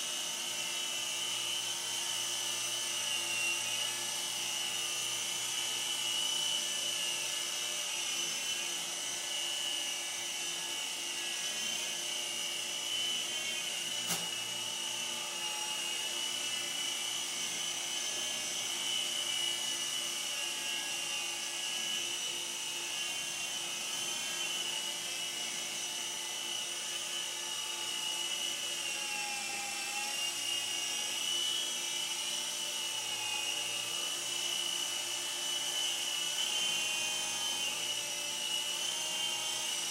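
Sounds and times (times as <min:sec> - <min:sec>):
toy helicopter motor whine: 0:00.0 - 0:39.9.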